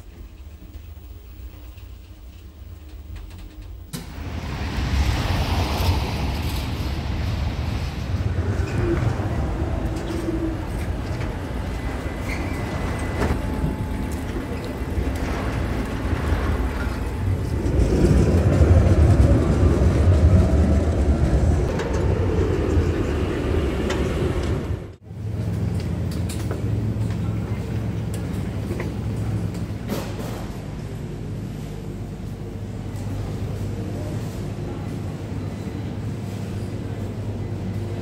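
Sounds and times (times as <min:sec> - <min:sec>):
electric tram rumbling: 0:00.0 - 0:38.0.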